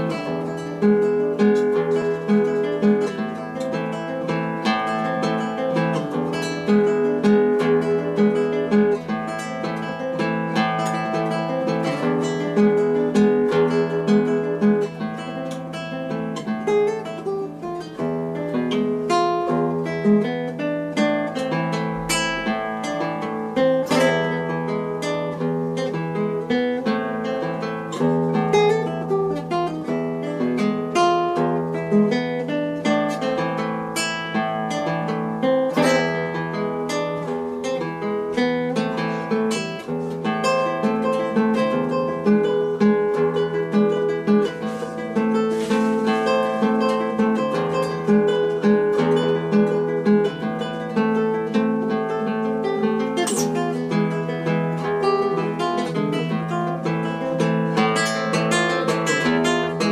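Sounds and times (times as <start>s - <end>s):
acoustic guitar piece: 0.0s - 59.9s.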